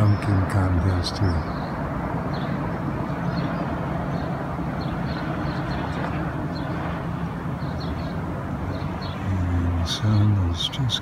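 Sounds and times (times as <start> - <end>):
distant city traffic rumble: 0.0 - 11.0.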